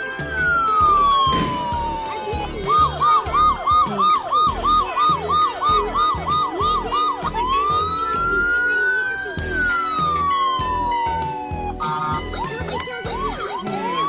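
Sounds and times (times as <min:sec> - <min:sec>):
low beat: 0:00.0 - 0:08.8, 0:09.4 - 0:14.0
electronic toy siren: 0:00.0 - 0:14.0.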